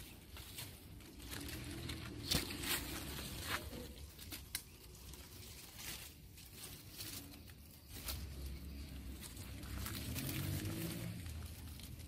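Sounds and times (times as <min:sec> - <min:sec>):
rustling of leaves and twigs: 0:00.0 - 0:12.0.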